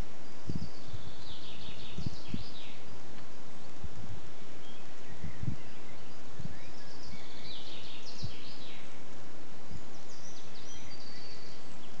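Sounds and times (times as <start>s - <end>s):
background hiss: 0.0s - 12.0s
wild birds chirping: 0.0s - 12.0s.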